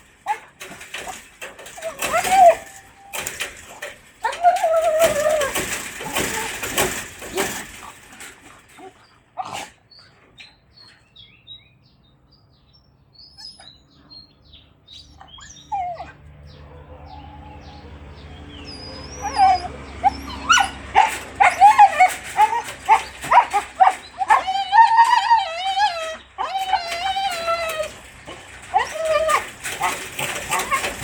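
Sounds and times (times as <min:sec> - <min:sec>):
dogs whining and yipping: 0:00.0 - 0:11.0, 0:13.3 - 0:13.9, 0:14.9 - 0:31.0.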